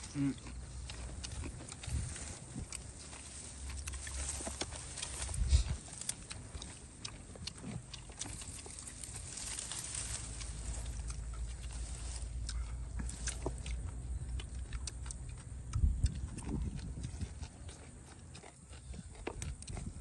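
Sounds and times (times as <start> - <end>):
people chewing crunchy food: 0.0 - 20.0
steady low rumble: 0.0 - 20.0.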